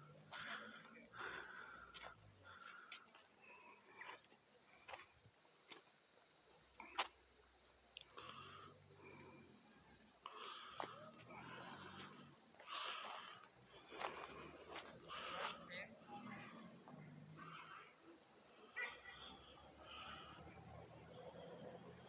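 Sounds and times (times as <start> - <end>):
faint distant voices: 0.0 - 7.1, 8.2 - 21.8
crickets chorus: 0.0 - 22.0.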